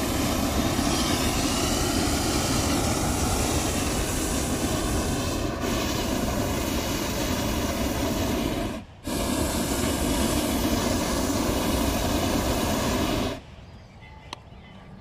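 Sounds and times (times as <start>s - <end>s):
propane burner hissing: 0.0s - 13.5s.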